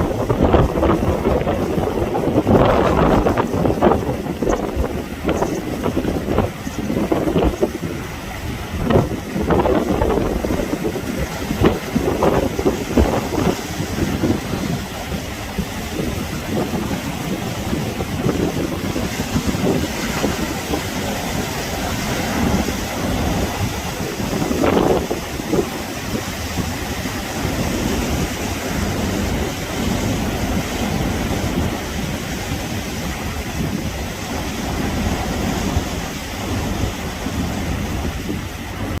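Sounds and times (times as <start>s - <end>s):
sea waves breaking: 0.0s - 39.0s
wind buffeting microphone: 0.0s - 39.0s.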